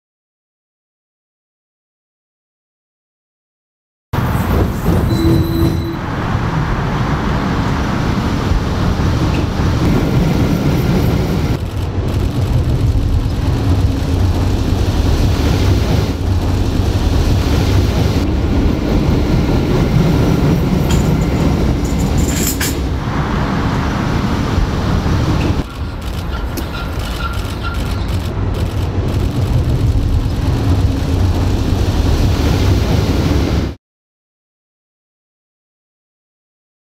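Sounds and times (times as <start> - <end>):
roller coaster wheels rumbling on rail: 4.2 - 33.8.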